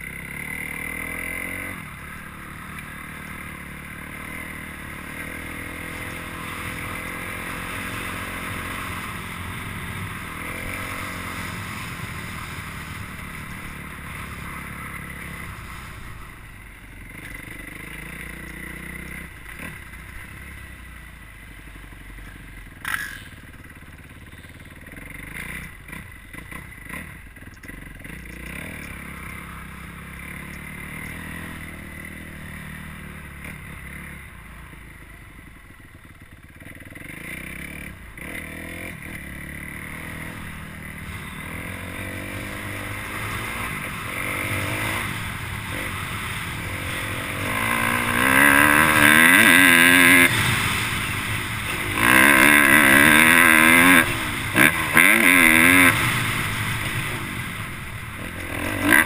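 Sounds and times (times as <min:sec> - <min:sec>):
dirt bike engine revving: 0:00.0 - 0:20.7, 0:22.8 - 0:34.4, 0:36.6 - 0:59.0.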